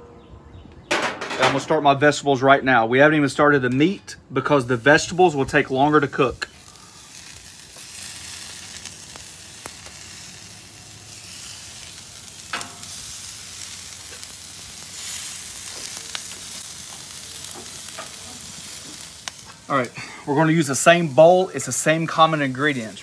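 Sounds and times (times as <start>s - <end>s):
kabobs sizzling on griddle: 4.5s - 23.0s.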